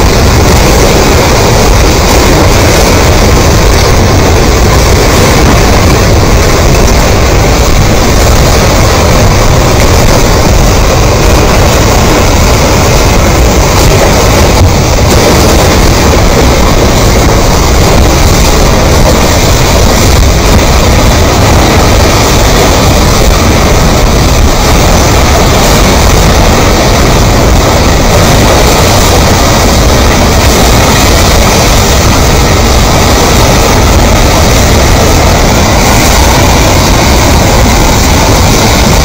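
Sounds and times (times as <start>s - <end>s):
mud and rocks rumbling downhill: 0.0s - 39.0s.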